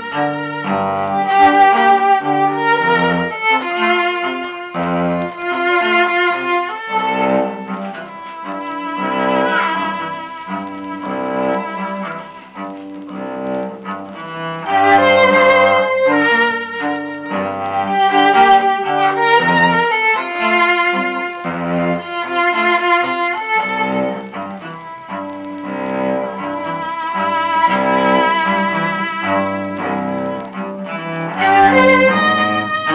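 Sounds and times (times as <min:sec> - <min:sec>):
violin melody: 0:00.0 - 0:32.9.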